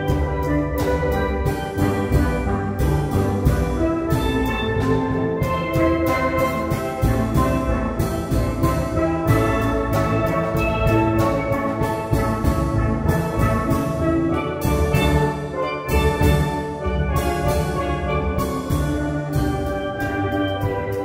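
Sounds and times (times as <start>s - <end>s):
instrumental ensemble music: 0.0s - 21.0s.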